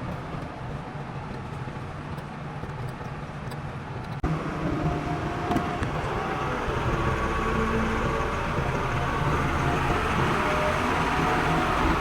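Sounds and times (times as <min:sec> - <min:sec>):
heavy machinery engine hum: 0:00.0 - 0:12.0.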